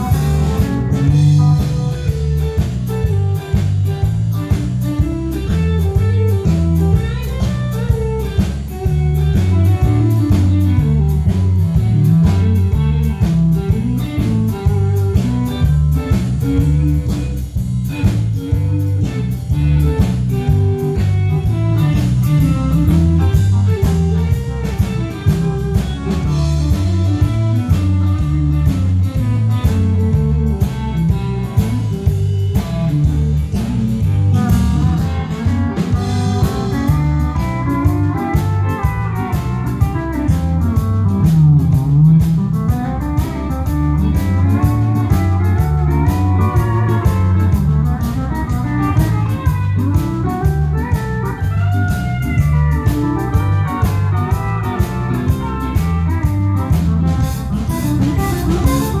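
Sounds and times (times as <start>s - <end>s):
bass guitar: 0.0s - 59.0s
drum-kit beat: 0.0s - 59.0s
sliding guitar lead: 0.0s - 59.0s.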